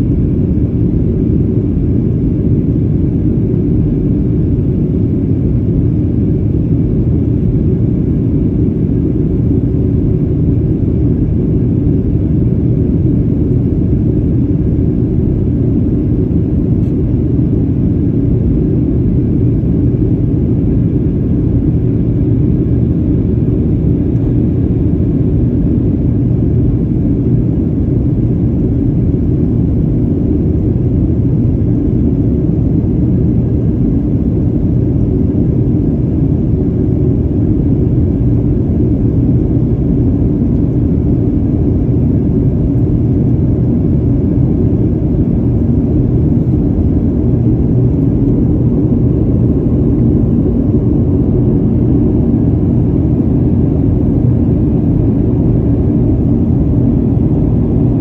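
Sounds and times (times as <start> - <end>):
airliner cabin engine roar: 0.0 - 58.0.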